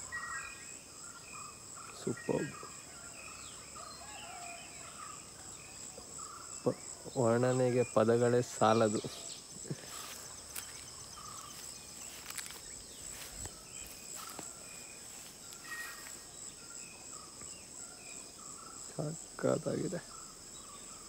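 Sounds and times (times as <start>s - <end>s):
bird chirps: 0.0s - 21.0s
insect chorus: 0.0s - 21.0s.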